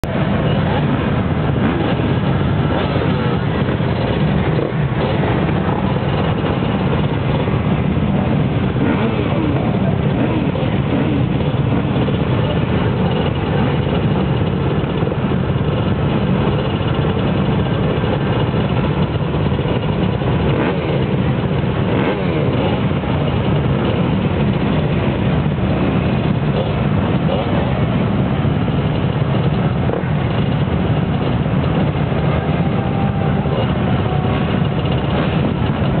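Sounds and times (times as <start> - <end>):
motocross bikes idling and revving: 0.0 - 36.0.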